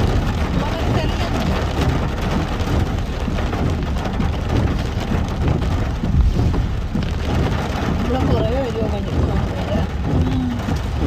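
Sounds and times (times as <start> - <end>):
car driving rumble: 0.0 - 11.0
rain on a car: 0.0 - 11.0.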